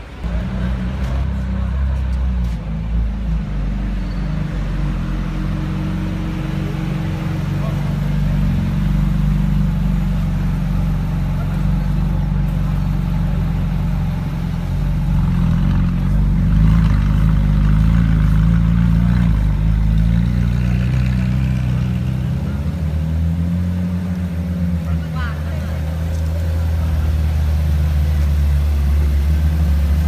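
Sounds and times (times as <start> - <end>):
car engine idling: 4.4 - 30.0.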